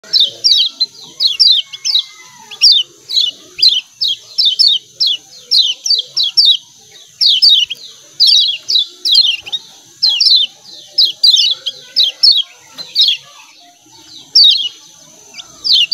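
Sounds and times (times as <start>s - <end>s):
birds giving high falling chirps: 0.0s - 15.9s.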